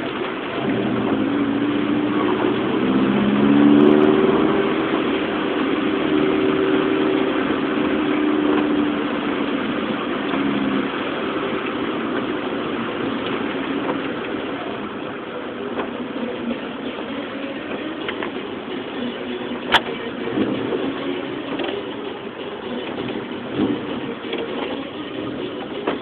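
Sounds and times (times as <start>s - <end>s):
car engine: 0.0s - 26.0s
heavy rain hissing: 0.0s - 26.0s.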